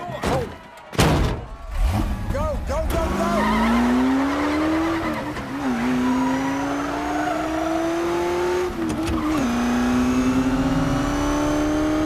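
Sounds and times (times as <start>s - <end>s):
race car engine accelerating: 1.7s - 12.0s.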